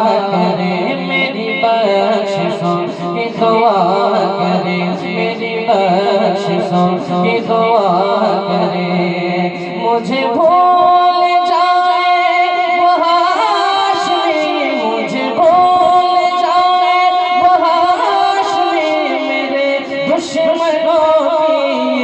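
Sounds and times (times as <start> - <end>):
person singing long notes: 0.0 - 22.0.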